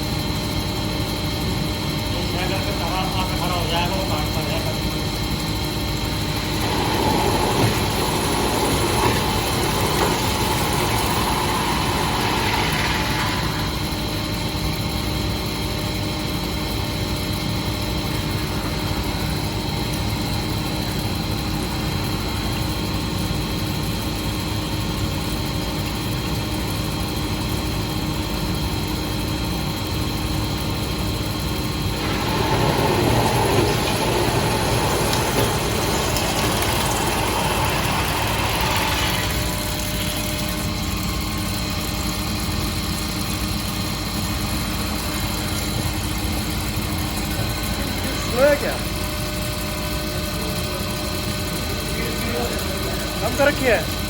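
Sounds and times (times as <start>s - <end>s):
machine hum with high whine: 0.0s - 54.0s.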